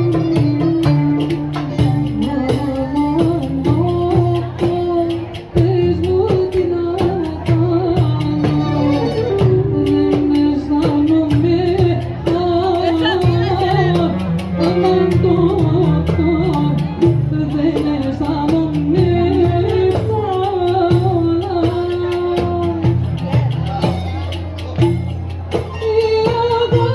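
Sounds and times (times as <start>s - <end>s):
woman singing: 0.0s - 23.4s, 25.5s - 26.9s
lower accompanying line: 0.0s - 26.9s.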